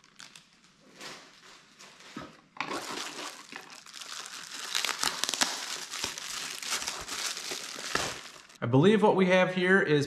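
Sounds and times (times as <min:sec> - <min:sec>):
bubble wrap crinkling: 0:00.0 - 0:08.6.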